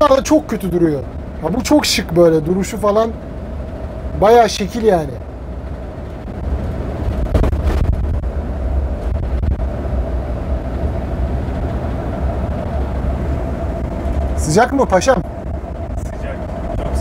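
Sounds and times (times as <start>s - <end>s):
coach engine and road drone: 0.0s - 17.0s
mid-pitched hum: 0.0s - 17.0s.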